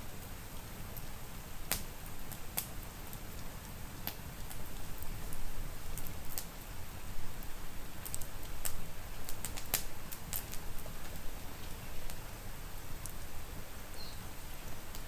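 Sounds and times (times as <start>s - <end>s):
soft rain: 0.0s - 15.0s
wood fire crackling: 0.0s - 15.0s.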